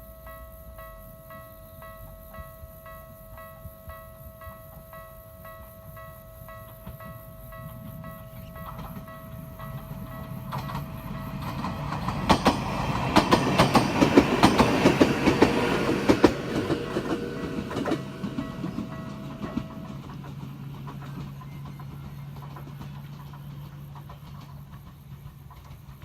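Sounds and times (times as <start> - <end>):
train wheels clattering over joints: 5.0 - 26.0.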